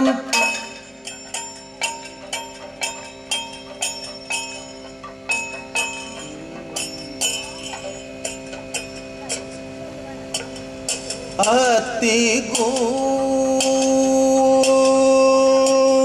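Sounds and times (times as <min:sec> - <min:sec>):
gong and hand cymbals beat: 0:00.0 - 0:16.0
steady drone: 0:00.0 - 0:16.0.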